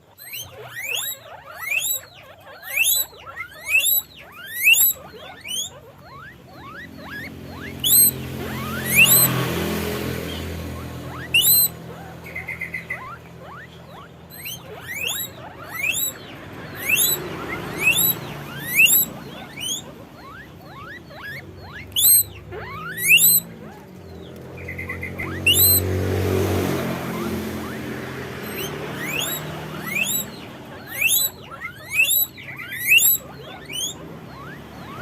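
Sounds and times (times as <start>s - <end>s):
guinea pig chirping trills: 0.0s - 35.0s
guinea pigs wheeking: 0.0s - 35.0s.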